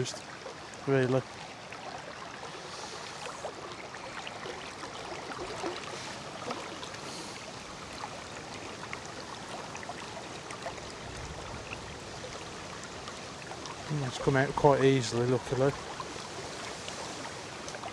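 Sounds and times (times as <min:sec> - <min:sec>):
river water running: 0:00.0 - 0:17.9.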